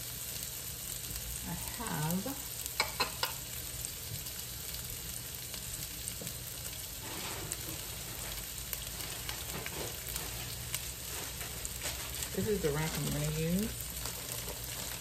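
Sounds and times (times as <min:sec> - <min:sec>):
onions sizzling in a frying pan: 0:00.0 - 0:15.0.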